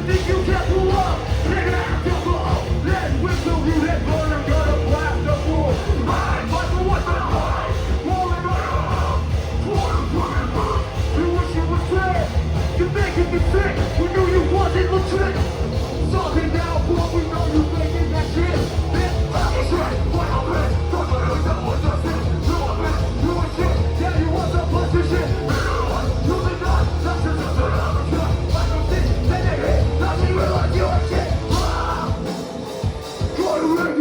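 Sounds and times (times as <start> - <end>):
shouted vocals: 0.0 - 32.5, 33.2 - 34.0
hardcore punk band playing: 0.0 - 34.0.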